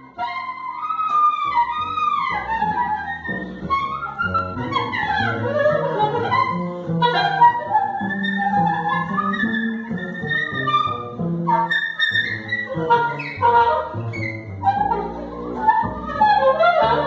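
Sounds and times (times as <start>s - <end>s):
double bass low notes: 0.0s - 17.0s
woodwind playing gliding lines: 0.1s - 17.0s.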